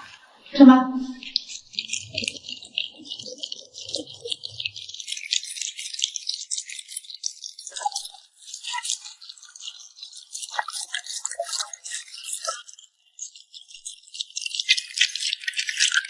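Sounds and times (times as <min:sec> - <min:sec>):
puppy eating with lip smacking: 0:01.1 - 0:16.0.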